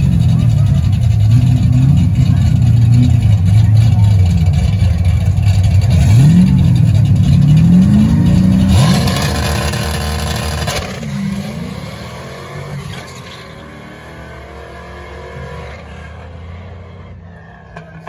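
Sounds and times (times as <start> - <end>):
drag car engines at full throttle: 0.0 - 18.0.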